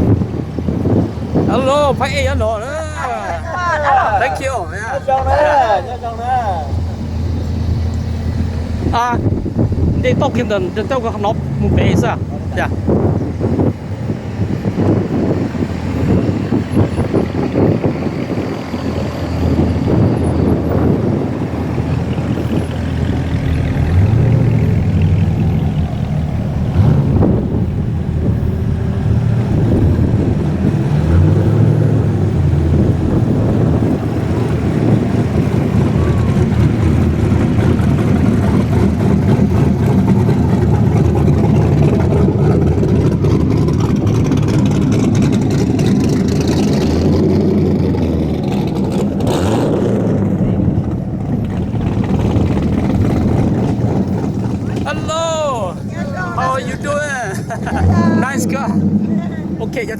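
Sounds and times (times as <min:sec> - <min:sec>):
car engines accelerating: 0:00.0 - 0:59.9.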